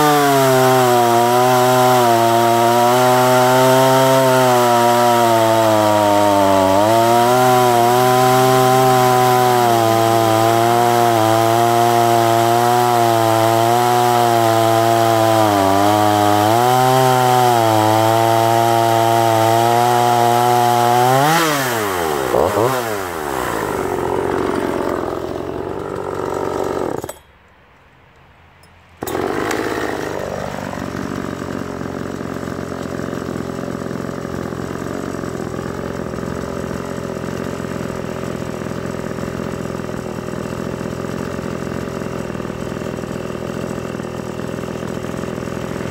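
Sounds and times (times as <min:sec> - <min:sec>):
chainsaw cutting log: 0:00.0 - 0:27.4, 0:29.0 - 0:45.9
chainsaw idling: 0:00.0 - 0:27.4, 0:29.0 - 0:45.9.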